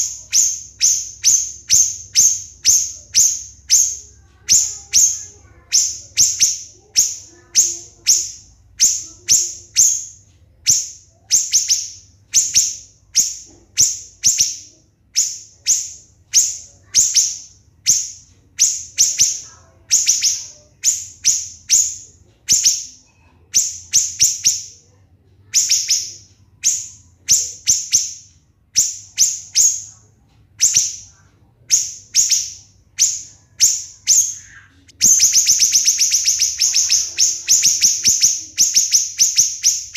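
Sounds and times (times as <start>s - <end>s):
bird singing shrill notes: 0.0s - 24.8s, 25.5s - 30.0s, 30.6s - 39.9s.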